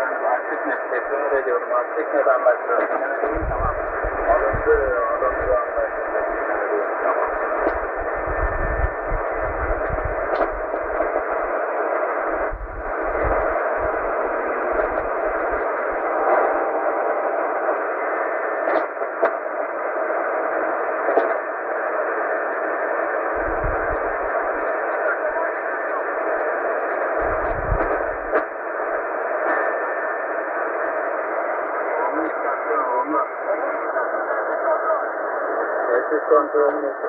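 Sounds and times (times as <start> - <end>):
radio static hiss: 0.0 - 37.0.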